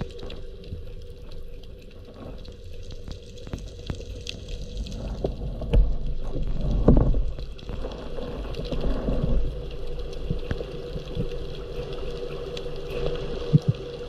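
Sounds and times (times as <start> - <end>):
rush of water: 0.0 - 14.0
underwater rumble of moving water: 0.0 - 14.0.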